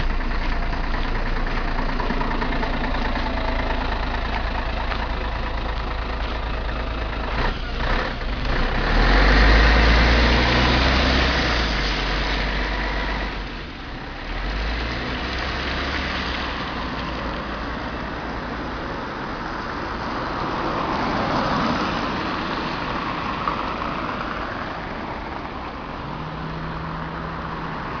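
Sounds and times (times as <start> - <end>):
bus engine pulling away: 0.0 - 28.0.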